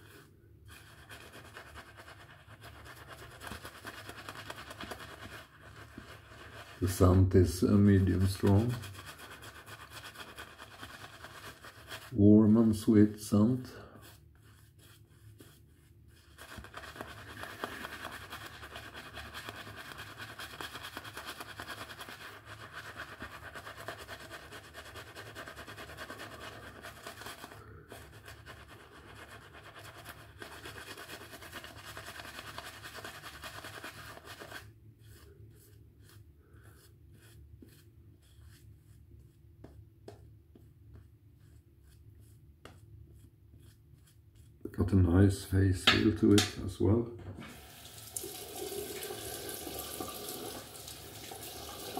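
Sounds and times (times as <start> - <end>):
shaving brush rubbing lather: 0.0 - 45.2.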